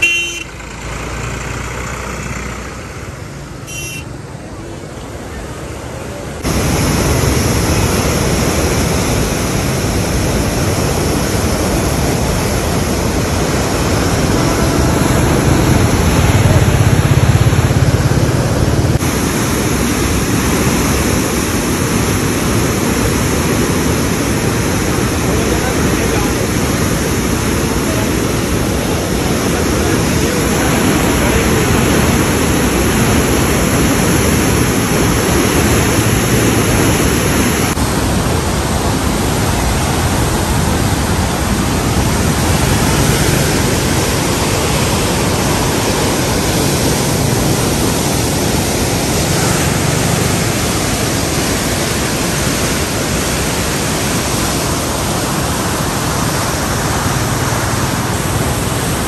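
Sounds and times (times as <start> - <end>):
floodwater rushing through gates: 0.0 - 59.0.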